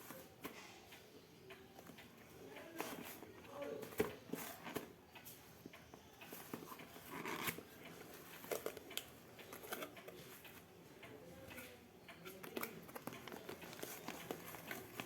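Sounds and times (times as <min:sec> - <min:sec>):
small clicks and rustles of packaging: 0:00.0 - 0:15.0.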